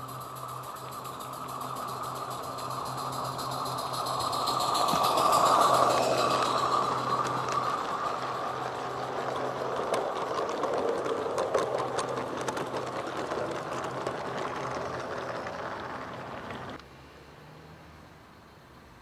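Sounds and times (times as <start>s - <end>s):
train wheels rattling on track: 0.0s - 16.8s.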